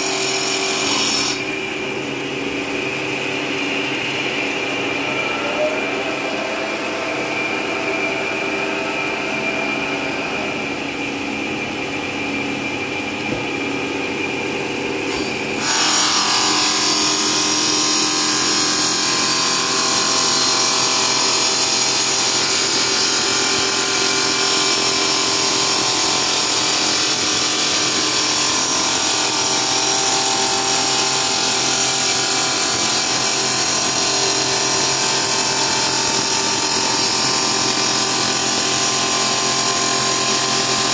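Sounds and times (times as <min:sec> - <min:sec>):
cnc machine motor whine: 0:01.4 - 0:17.4, 0:18.0 - 0:40.9.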